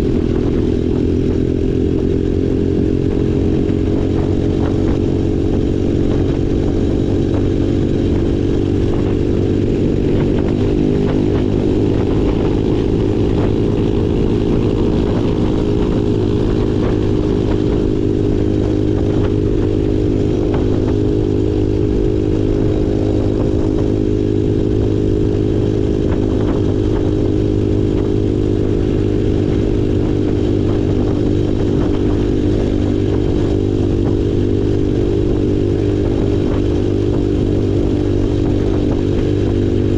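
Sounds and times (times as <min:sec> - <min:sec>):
off-road engine running: 0:00.0 - 0:39.9.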